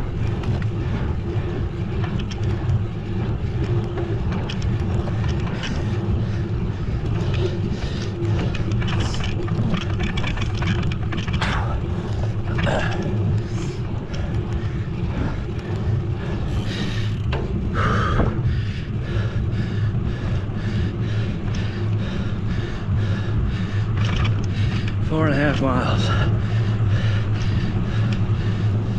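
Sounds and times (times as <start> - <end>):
wind and road noise: 0.0 - 28.9.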